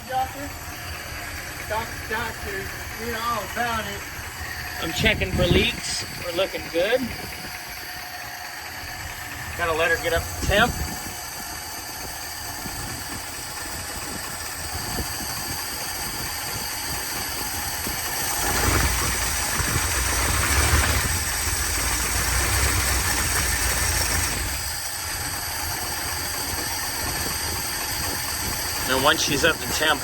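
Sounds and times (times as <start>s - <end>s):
pickup engine idling: 0.0s - 30.0s.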